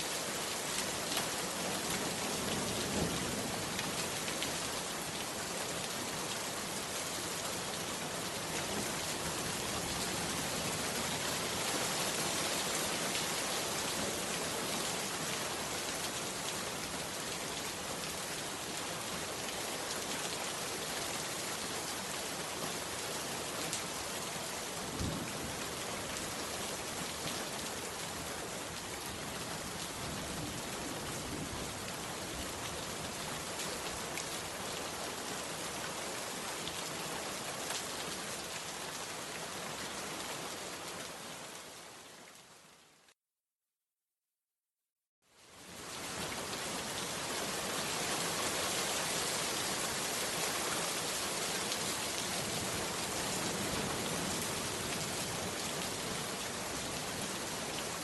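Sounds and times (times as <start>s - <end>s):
heavy rain pouring: 0.0s - 41.8s, 45.6s - 58.0s.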